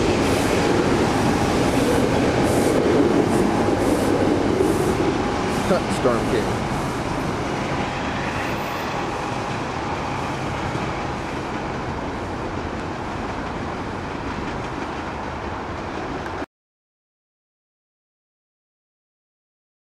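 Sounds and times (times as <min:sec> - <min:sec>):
train wheels rumbling on rails: 0:00.0 - 0:16.5.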